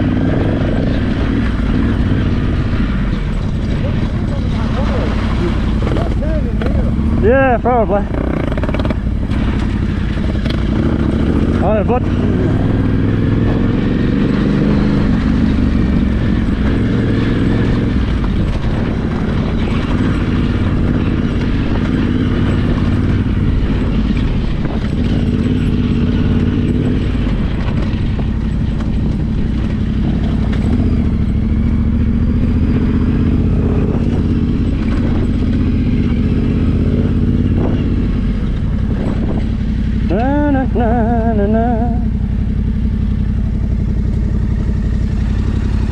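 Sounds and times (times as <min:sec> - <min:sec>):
low rumble: 0:00.0 - 0:45.9
motorcycle engine running: 0:00.0 - 0:45.9.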